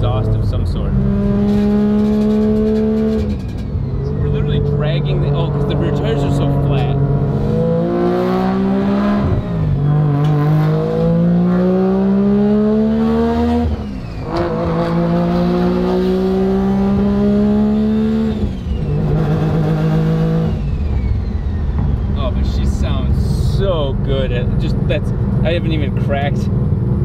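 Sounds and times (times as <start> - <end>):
rotary engine accelerating: 0.0 - 27.0.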